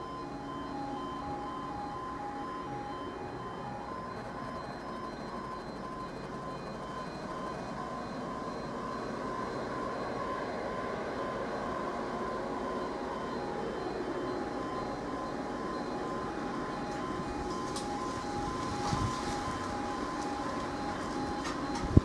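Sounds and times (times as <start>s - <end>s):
diesel locomotive engine drone: 0.0s - 22.0s
faint repeating beeping tone: 0.0s - 22.0s.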